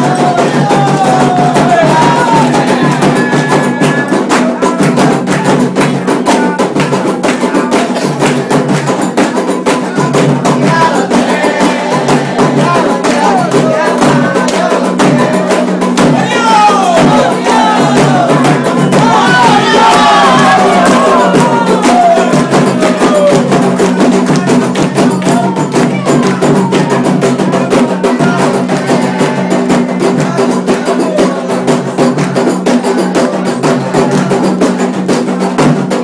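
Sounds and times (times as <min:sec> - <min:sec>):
drums beating fast rhythm: 0:00.0 - 0:36.0
voices singing a chant: 0:00.0 - 0:36.0.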